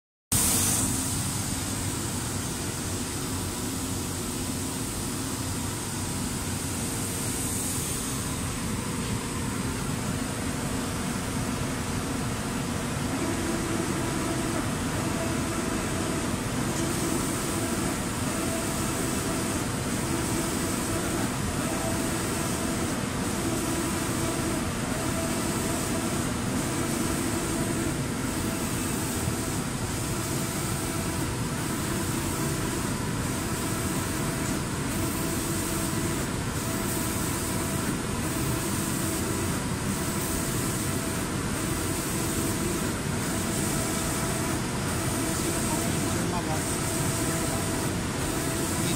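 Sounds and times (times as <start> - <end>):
machine hum: 4.8 - 48.9.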